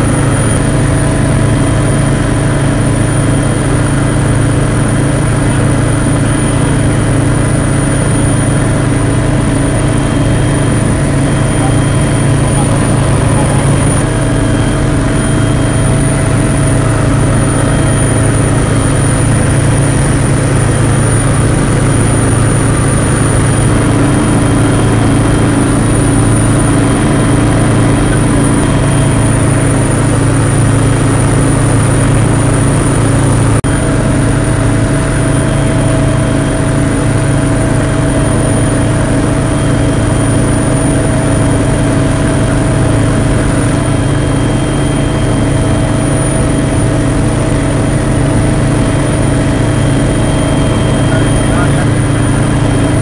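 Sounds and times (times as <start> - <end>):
aircraft engine hum with whine: 0.0 - 53.0.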